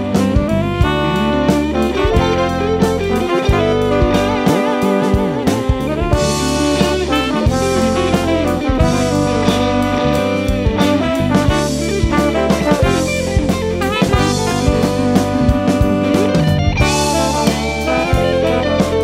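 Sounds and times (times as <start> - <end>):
drum kit: 0.0 - 19.0
electric guitar: 0.0 - 19.0
tenor saxophone: 0.0 - 19.0
trombone: 0.0 - 19.0.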